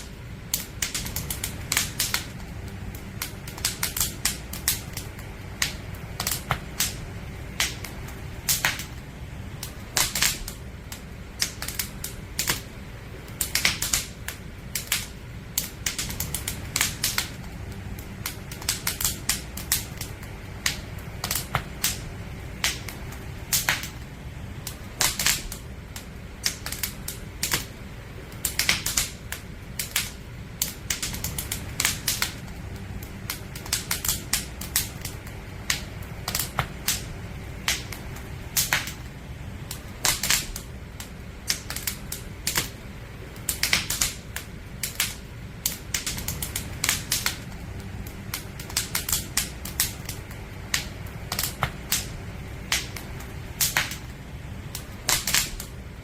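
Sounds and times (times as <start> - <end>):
campfire crackling and popping: 0.0 - 56.0
steady low rumble: 0.0 - 56.0.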